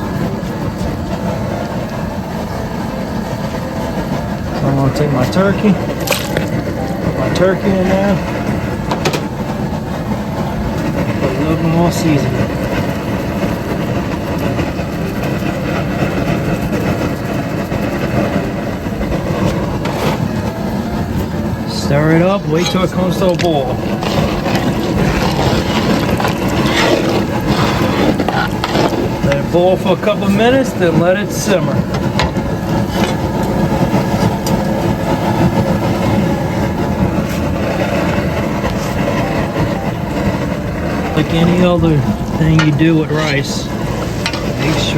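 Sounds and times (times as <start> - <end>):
propane burner roaring: 0.0 - 44.9.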